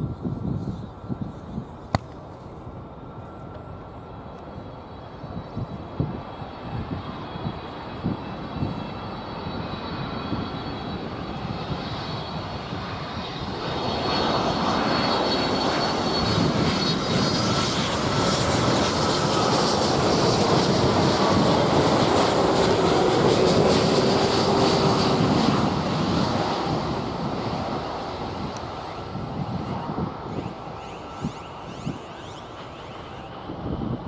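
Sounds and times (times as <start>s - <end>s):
jet engines whining overhead: 0.0s - 34.0s.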